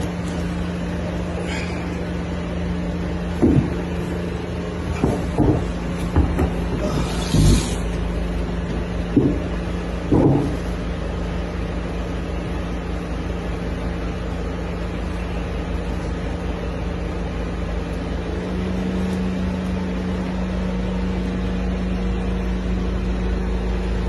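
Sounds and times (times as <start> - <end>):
low held drone: 0.0 - 24.0
mechanical hum: 0.0 - 24.0.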